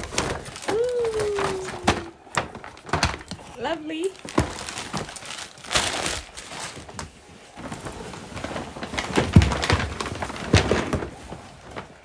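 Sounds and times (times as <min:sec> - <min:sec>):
paper bags rustling: 0:00.0 - 0:12.0.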